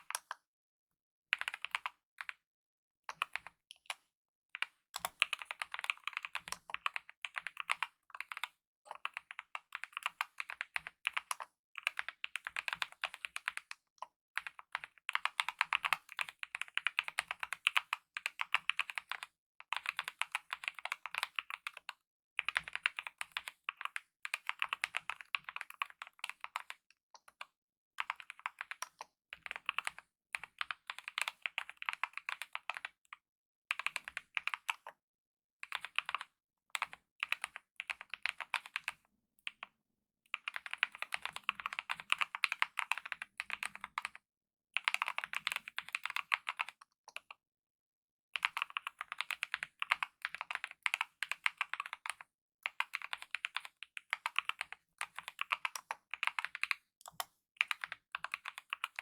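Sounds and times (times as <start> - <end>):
typing on mechanical keyboard: 1.3 - 2.4, 4.6 - 13.8, 14.4 - 33.0, 33.7 - 35.0, 35.6 - 39.6, 40.3 - 44.2, 44.8 - 47.4, 48.4 - 59.0.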